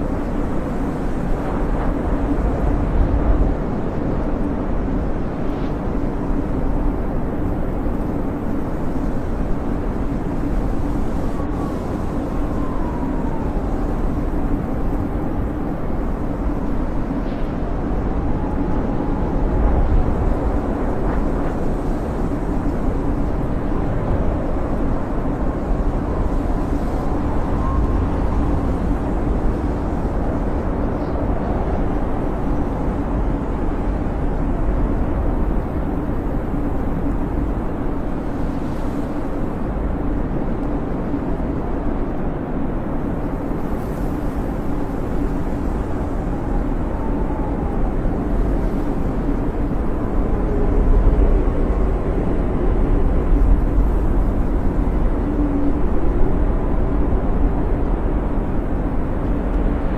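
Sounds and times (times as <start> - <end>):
blizzard wind howling: 0.0 - 59.9.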